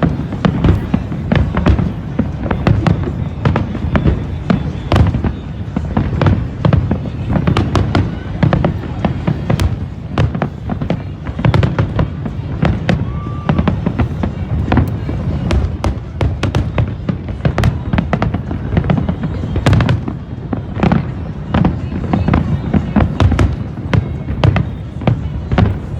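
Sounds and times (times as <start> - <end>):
fireworks crackling and popping: 0.0 - 25.9
low fireworks booms: 0.0 - 25.9.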